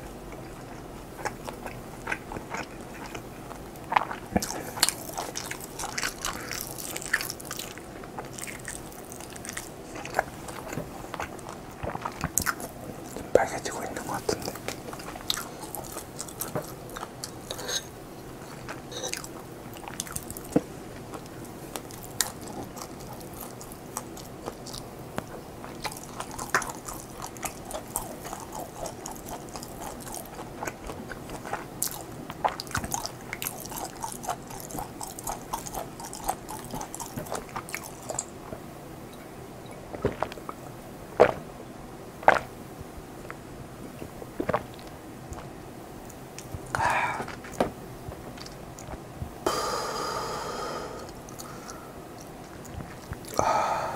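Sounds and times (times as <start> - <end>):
chewing and biting food: 0.0 - 38.7, 39.7 - 40.6, 41.2 - 41.5, 42.2 - 42.5, 43.2 - 49.0, 51.0 - 53.8.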